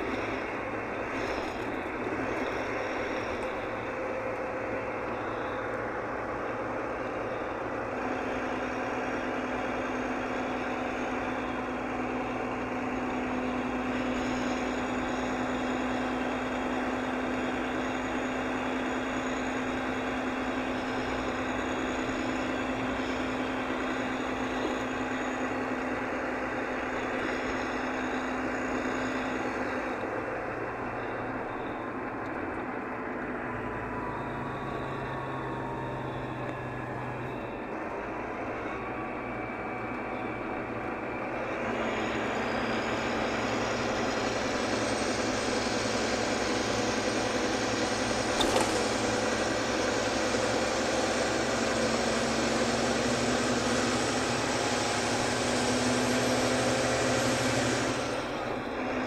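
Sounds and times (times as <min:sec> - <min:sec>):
diesel coach engine: 0:00.0 - 0:59.0
road and tyre noise: 0:00.0 - 0:59.0.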